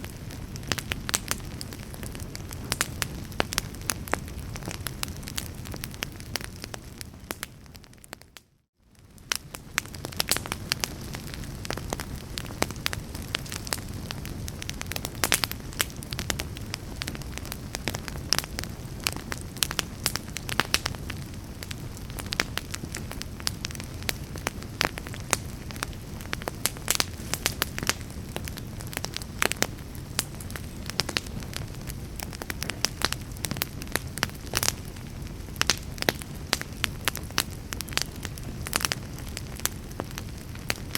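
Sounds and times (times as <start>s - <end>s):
fire crackling with sharp pops: 0.0s - 40.9s
low rumble of flames: 0.0s - 40.9s.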